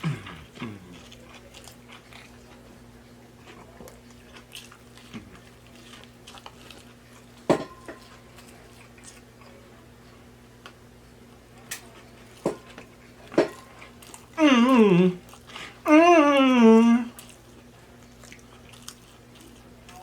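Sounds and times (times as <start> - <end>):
chewing mouth sounds: 0.0 - 9.4, 12.2 - 15.9, 17.1 - 20.0
steady low hum: 0.0 - 20.0.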